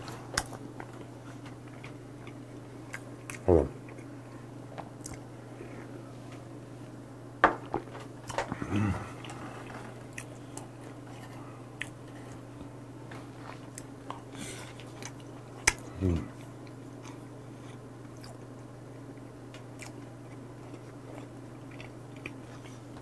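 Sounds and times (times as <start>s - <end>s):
soft chewing: 0.1s - 6.5s, 8.4s - 23.0s.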